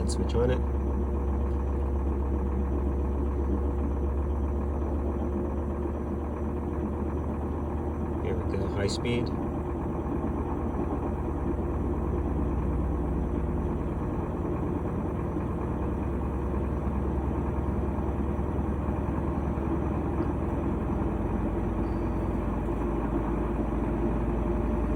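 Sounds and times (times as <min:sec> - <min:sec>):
washing machine spinning: 0:00.0 - 0:24.9.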